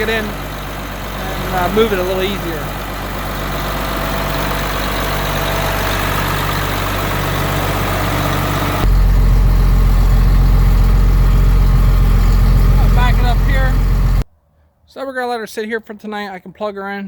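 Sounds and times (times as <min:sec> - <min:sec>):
tractor engine running: 0:00.0 - 0:14.2.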